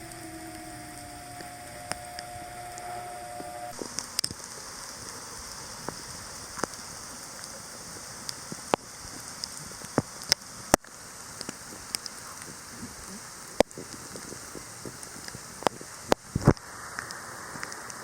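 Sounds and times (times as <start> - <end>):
rain hiss: 0.0 - 18.0
raindrops ticking close by: 0.0 - 18.0.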